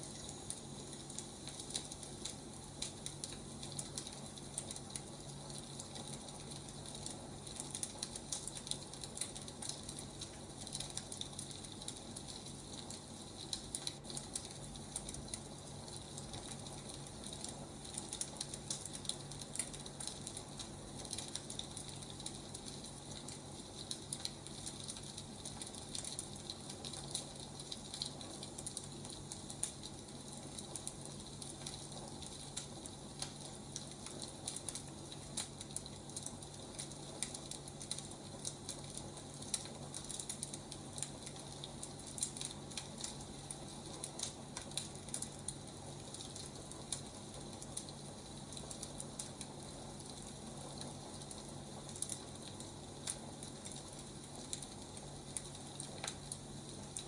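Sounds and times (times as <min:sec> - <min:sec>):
low steady hum: 0:00.0 - 0:57.0
steady hiss: 0:00.0 - 0:57.0
wood fire crackling and popping: 0:00.0 - 0:57.0.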